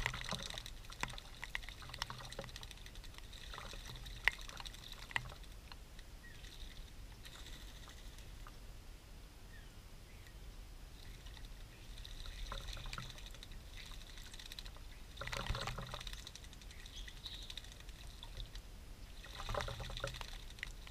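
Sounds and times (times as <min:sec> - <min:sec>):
birds splashing in birdbath: 0:00.0 - 0:08.6, 0:11.0 - 0:20.9.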